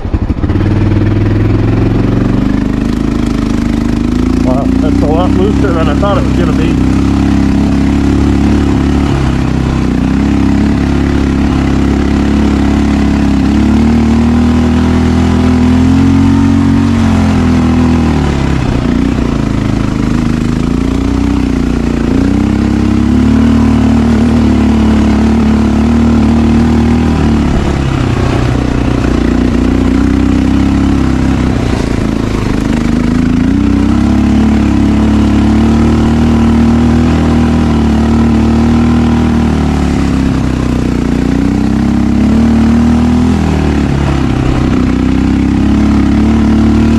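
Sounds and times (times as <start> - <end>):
motorcycle engine under load: 0.0 - 46.9.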